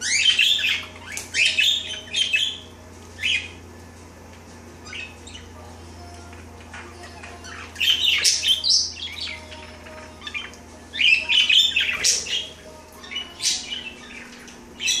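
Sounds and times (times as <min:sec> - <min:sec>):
budgerigars chirping and squawking: 0:00.0 - 0:03.6, 0:04.8 - 0:05.6, 0:06.5 - 0:15.0.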